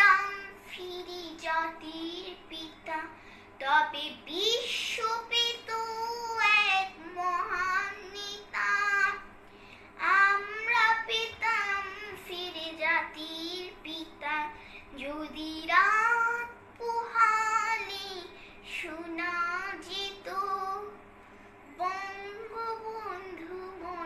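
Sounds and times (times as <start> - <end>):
girl singing unaccompanied: 0.0 - 9.4, 10.0 - 21.0, 21.7 - 24.0.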